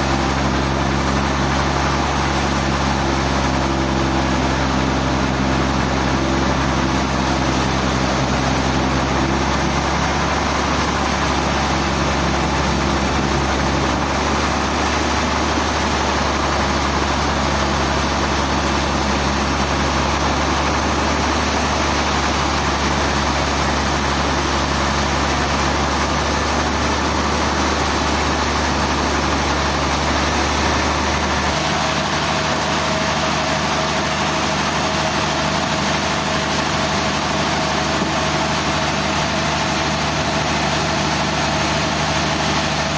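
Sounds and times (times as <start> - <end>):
engine low hum: 0.0 - 42.9
hissing mechanical noise: 0.0 - 42.9.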